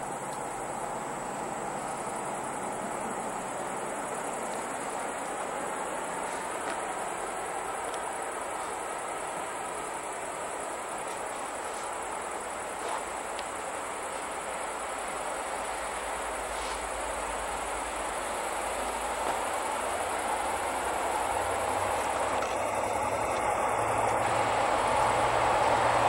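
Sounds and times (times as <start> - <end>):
crickets chirping: 0.0 - 26.0
diesel train rumble: 0.0 - 26.0.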